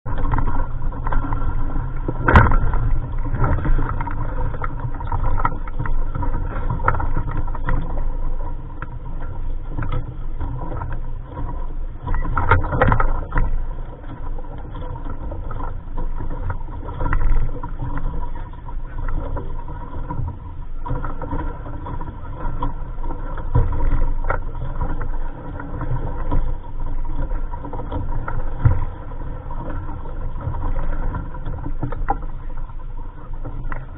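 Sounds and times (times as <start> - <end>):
wind rumbling on microphone: 0.0 - 33.9.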